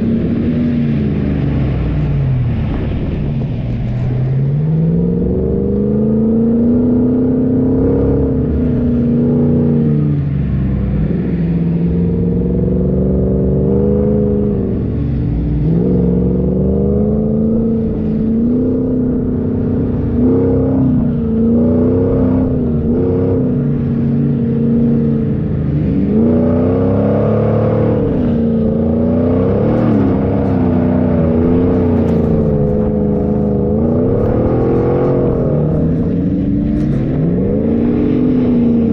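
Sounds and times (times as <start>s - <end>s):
engine revving: 0.0s - 38.9s.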